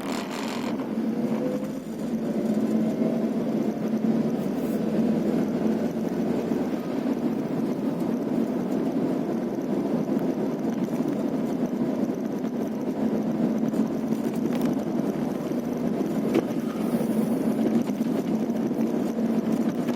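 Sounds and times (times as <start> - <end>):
vehicle engine and road noise: 0.0 - 19.9.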